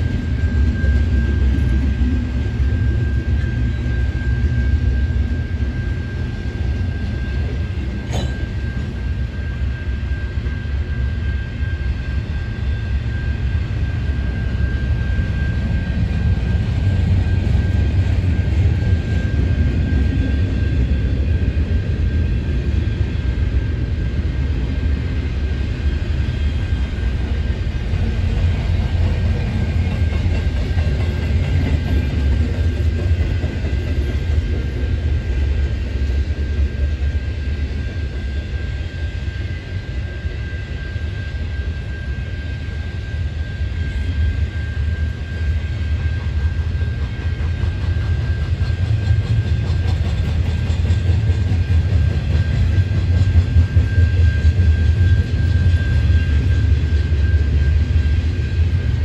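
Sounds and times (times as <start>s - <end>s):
train cars rumbling past: 0.0s - 59.0s.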